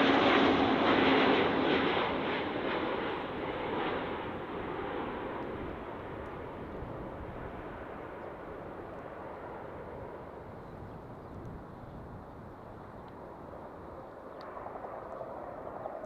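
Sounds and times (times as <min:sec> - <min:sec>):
jet engines roaring: 0:00.0 - 0:10.6, 0:12.6 - 0:16.0.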